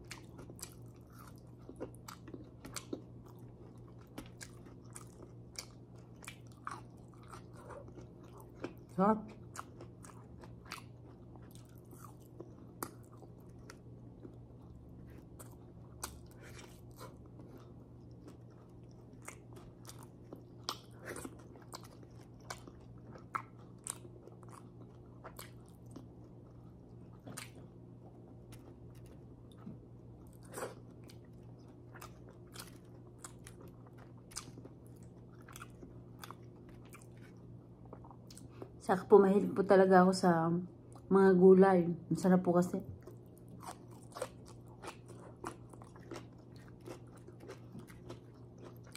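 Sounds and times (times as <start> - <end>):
chewing and biting meat: 0.0 - 38.8, 43.0 - 48.9
steady low hum: 0.0 - 48.9.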